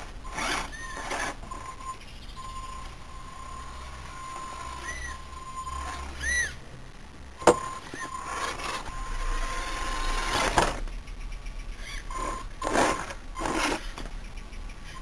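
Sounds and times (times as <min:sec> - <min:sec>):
rc car motor and tyres: 0:00.0 - 0:06.6, 0:07.4 - 0:15.0.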